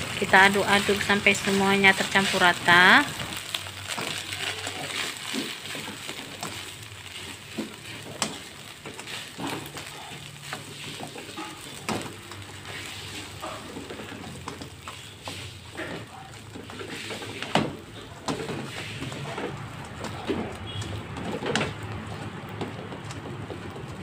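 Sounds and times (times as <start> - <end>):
rice sizzling in wok: 0.0 - 24.0
spatula scraping wok: 0.0 - 24.0.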